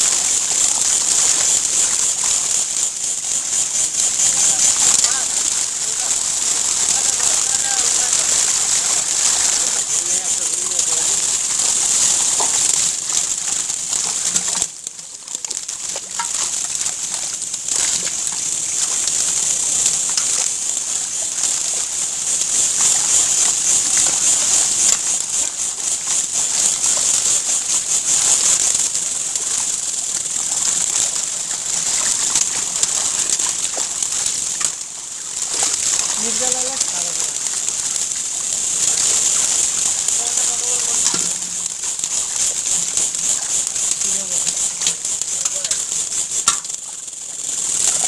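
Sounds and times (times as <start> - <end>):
fish splashing in shallow water: 0.0 - 48.0.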